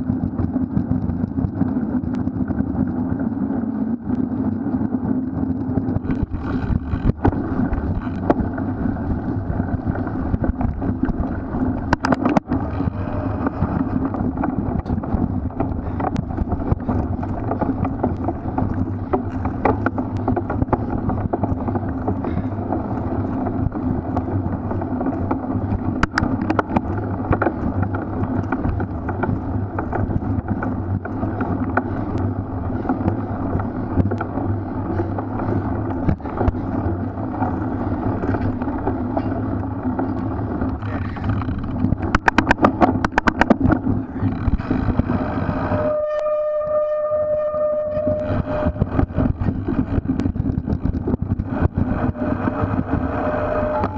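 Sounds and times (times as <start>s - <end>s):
bike tyre and frame noise: 0.0s - 53.9s
wind on microphone: 0.0s - 53.9s
bike chain clicks and knocks: 4.1s - 45.5s, 48.2s - 52.9s.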